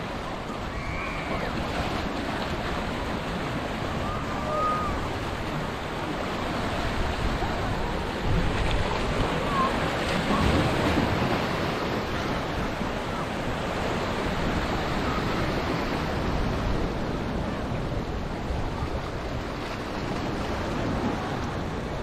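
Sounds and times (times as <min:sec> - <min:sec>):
sea waves washing against rocks: 0:00.0 - 0:22.0
wind on microphone: 0:00.0 - 0:22.0.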